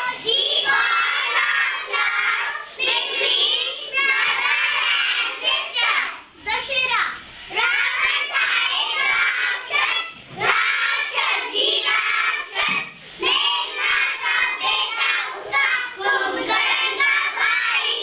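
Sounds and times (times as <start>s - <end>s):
young children singing in unison: 0.0s - 6.4s, 7.5s - 18.0s.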